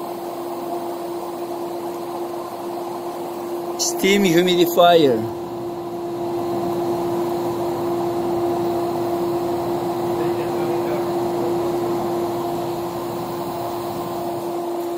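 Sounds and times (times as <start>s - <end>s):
steam humidifier humming: 0.0s - 14.9s.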